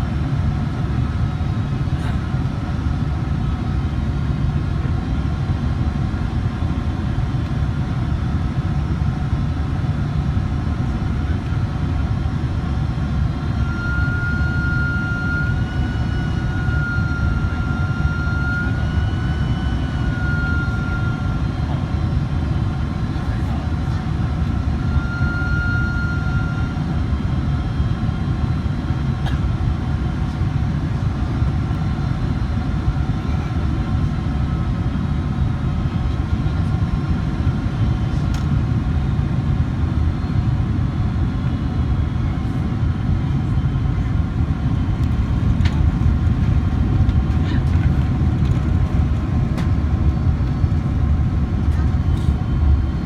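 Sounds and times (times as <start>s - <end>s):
jet airliner cabin rumble: 0.0s - 53.0s.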